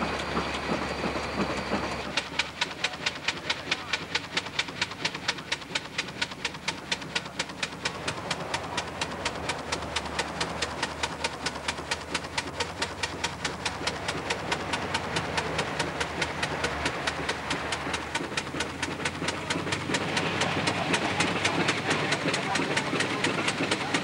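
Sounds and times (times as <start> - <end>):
steam engine exhaust chuffing: 0.0 - 24.0.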